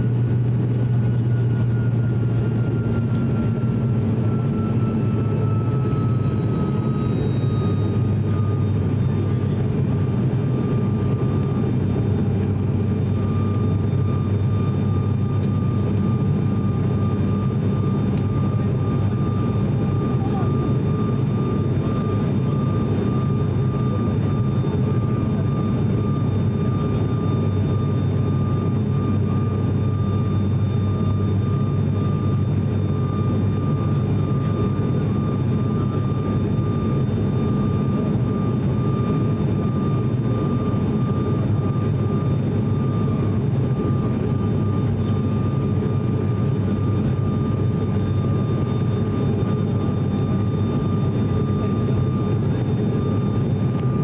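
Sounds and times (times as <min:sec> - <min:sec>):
high engine whine: 0:00.0 - 0:54.0
turboprop engines droning: 0:00.0 - 0:54.0.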